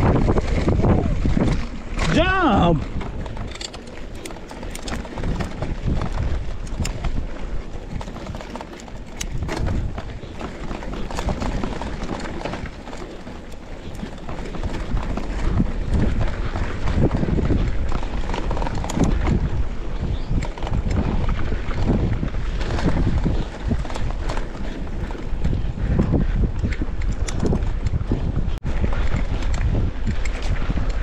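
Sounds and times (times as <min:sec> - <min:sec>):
mountain bike rattling and knocking: 0:00.0 - 0:31.0
wind rumbling on microphone: 0:00.0 - 0:31.0.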